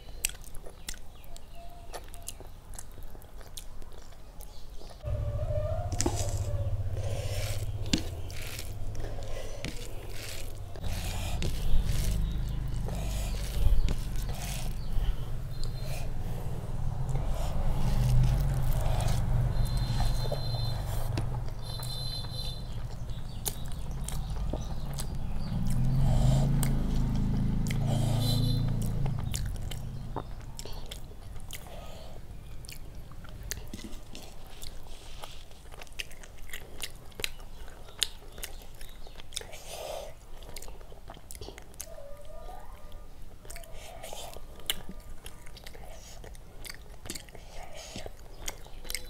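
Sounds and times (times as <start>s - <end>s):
person chewing: 0.0s - 42.0s, 43.4s - 49.0s.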